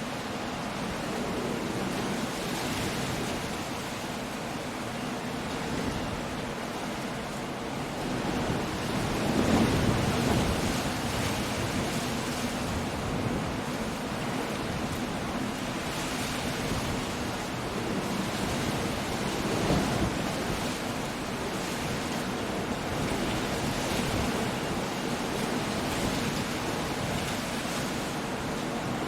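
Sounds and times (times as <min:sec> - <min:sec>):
rain: 0:00.0 - 0:29.0
sea waves breaking: 0:00.0 - 0:29.0
wind: 0:00.0 - 0:29.0.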